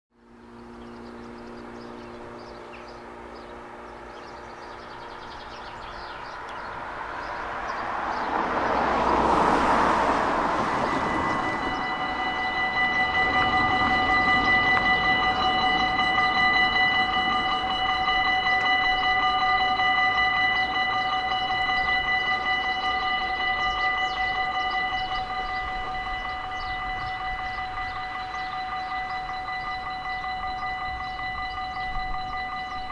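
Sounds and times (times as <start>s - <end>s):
level crossing warning bells: 0.2s - 32.9s.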